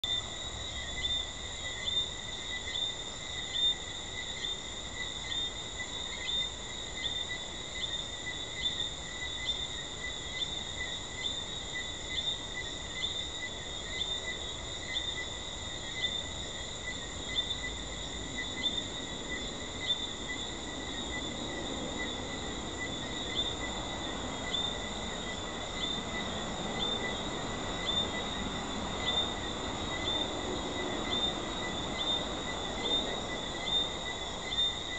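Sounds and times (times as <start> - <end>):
high ringing frog chorus: 0.0 - 34.9
treefrogs chirping: 0.0 - 34.9.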